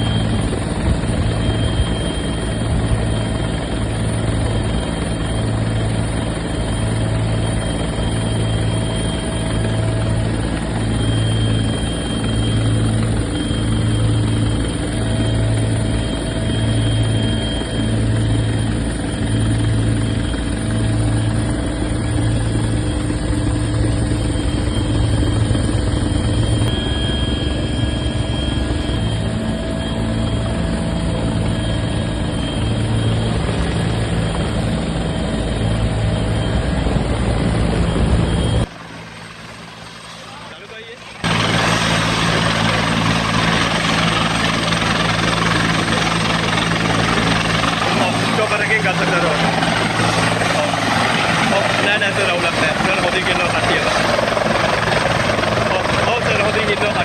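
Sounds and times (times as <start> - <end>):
helicopter rotor and turbine roar: 0.0 - 57.0.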